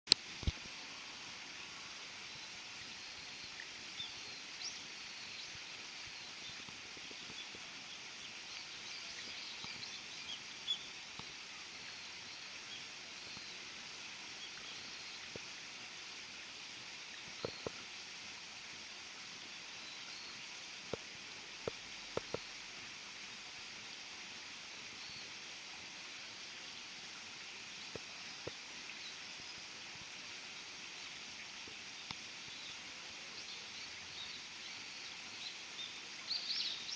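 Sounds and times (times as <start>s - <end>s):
steady hiss: 0.1s - 36.9s.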